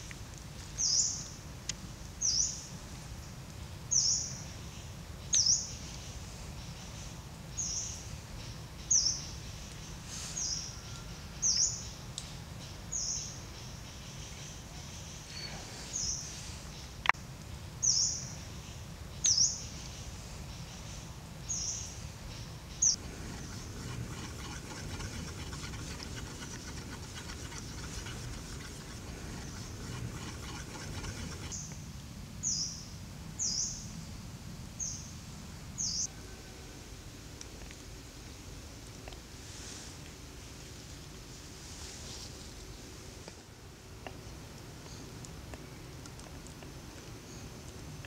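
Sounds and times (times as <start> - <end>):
low forest background: 0.0 - 48.0.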